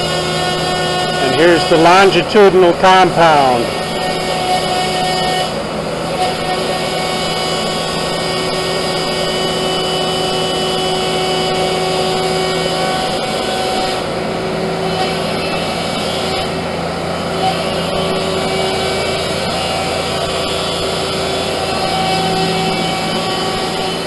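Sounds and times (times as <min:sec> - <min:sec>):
lathe machine hum: 0:00.0 - 0:24.0.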